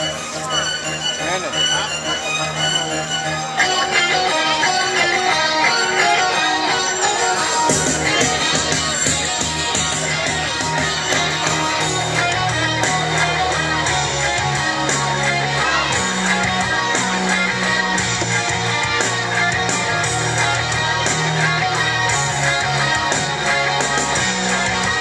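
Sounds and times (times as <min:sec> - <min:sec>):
rock music with strummed guitar: 0:00.0 - 0:25.0.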